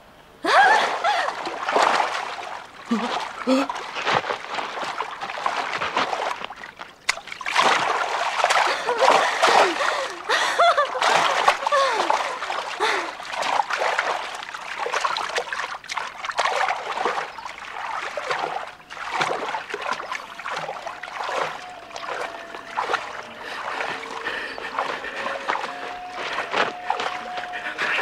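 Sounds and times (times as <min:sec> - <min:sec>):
water splashing and sloshing: 0:00.5 - 0:28.0.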